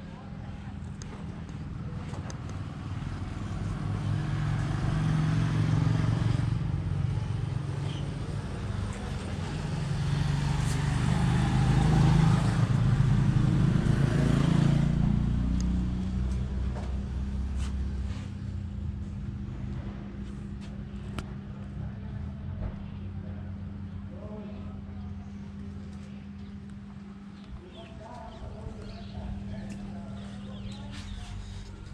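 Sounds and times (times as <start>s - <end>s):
vehicle engine humming: 0.0s - 31.9s.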